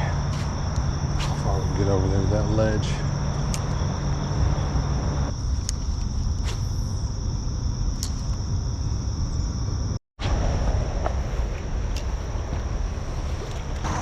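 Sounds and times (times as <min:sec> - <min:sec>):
crickets buzzing: 0:00.0 - 0:14.0.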